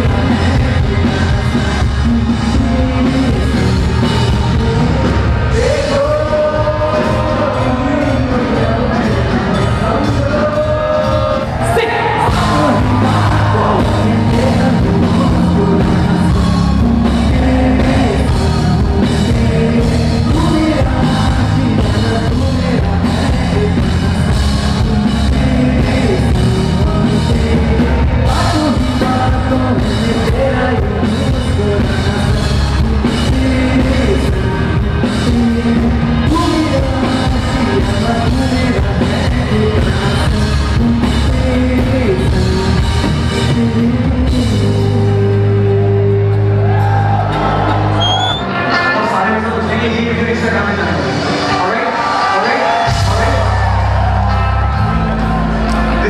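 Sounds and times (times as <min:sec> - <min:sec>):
person singing over backing track: 0:00.0 - 0:55.0
drums: 0:00.0 - 0:56.0.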